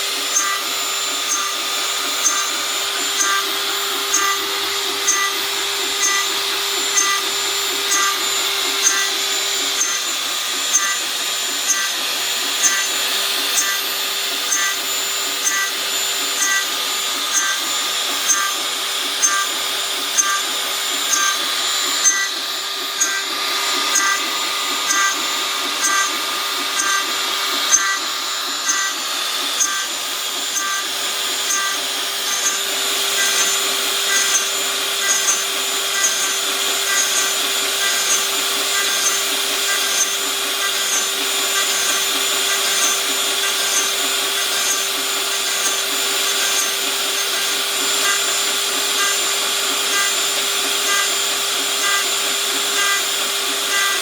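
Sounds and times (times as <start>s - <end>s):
stepper motor tones: 0.0s - 54.0s.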